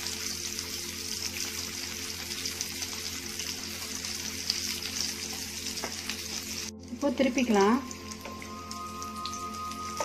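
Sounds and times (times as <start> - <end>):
hot oil sizzling in a pan: 0.0 - 10.0.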